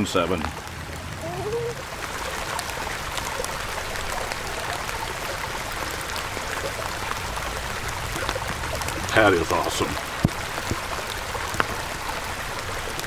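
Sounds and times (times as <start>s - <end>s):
pattering raindrop ticks: 0.0s - 13.0s
rain falling on forest floor: 0.0s - 13.0s.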